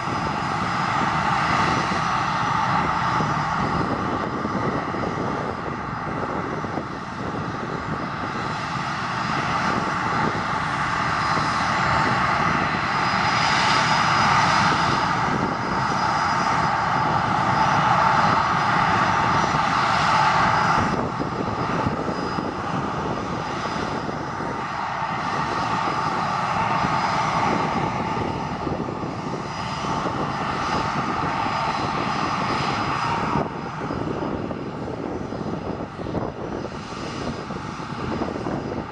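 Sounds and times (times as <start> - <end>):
jet engines running with whine: 0.0 - 38.9.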